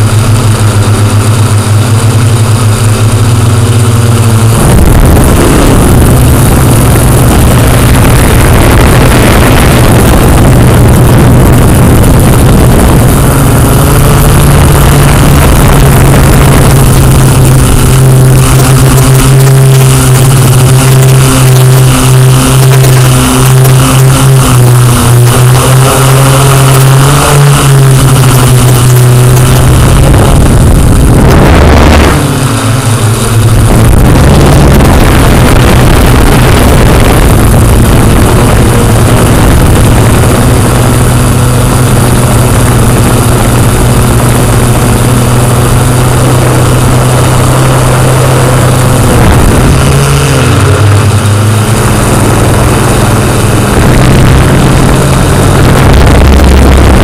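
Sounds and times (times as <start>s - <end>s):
low-flying aircraft engine drone: 0.0s - 57.0s.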